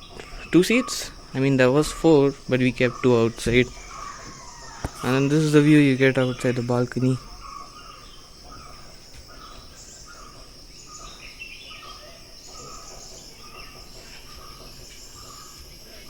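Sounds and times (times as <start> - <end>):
bird chirps: 0.0 - 16.0
insects droning: 0.0 - 16.0.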